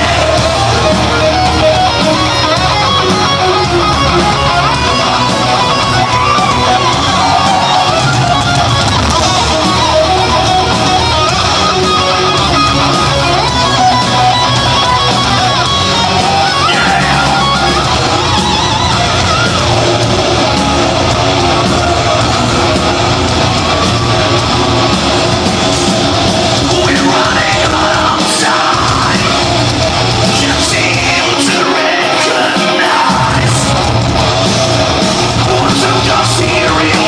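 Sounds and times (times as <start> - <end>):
heavy metal band playing: 0.0 - 37.0
shouted vocals: 0.0 - 37.0.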